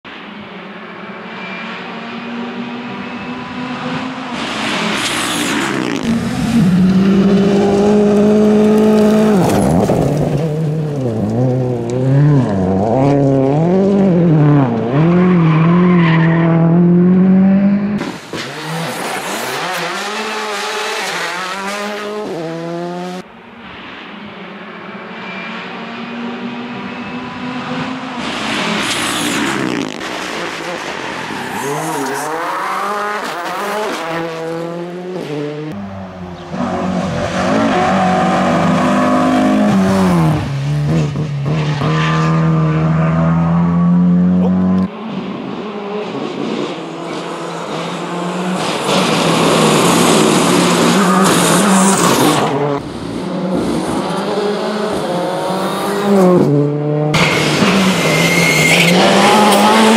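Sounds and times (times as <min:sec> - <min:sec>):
rally car engines revving: 0:00.4 - 0:59.9.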